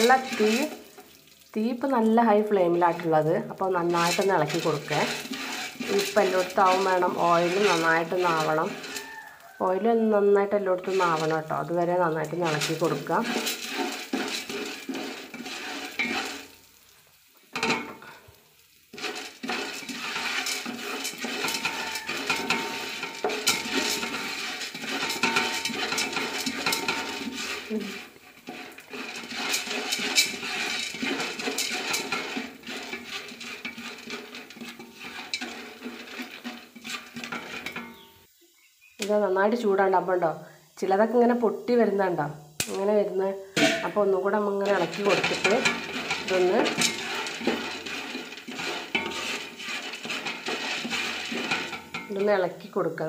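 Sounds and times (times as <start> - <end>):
popcorn kernels rattling in pan: 0.0 - 38.1, 39.0 - 53.0.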